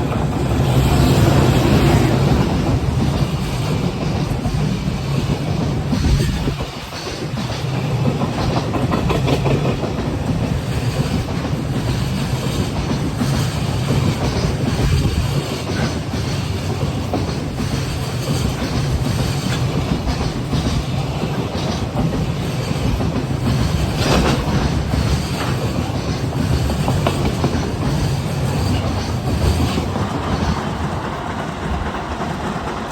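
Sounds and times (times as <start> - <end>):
train low rumble: 0.0 - 32.9
wheels clattering over rail joints: 0.0 - 32.9.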